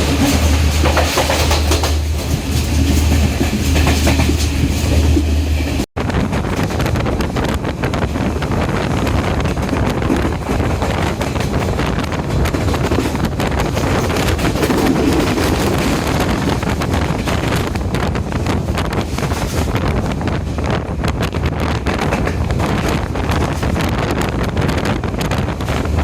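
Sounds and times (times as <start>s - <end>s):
train wheels rumbling on track: 0.0s - 26.0s
wind buffeting microphone: 0.0s - 26.0s.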